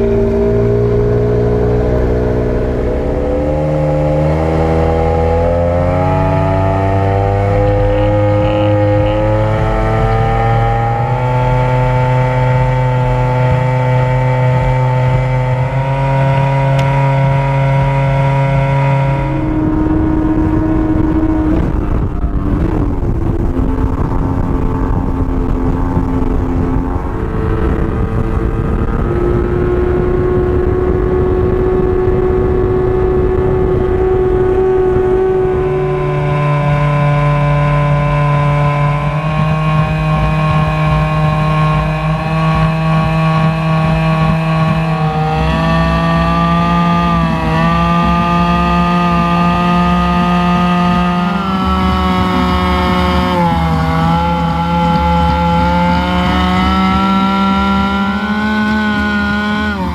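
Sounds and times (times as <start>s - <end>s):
outboard motor running hard: 0.0s - 59.9s.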